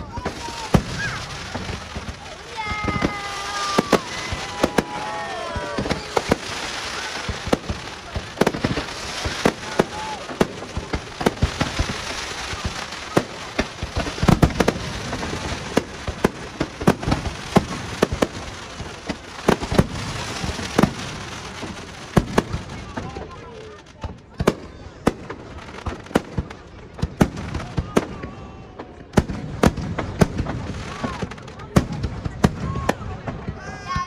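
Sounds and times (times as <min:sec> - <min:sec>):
fireworks bangs: 0:00.0 - 0:34.0
fireworks crackle: 0:00.0 - 0:34.0.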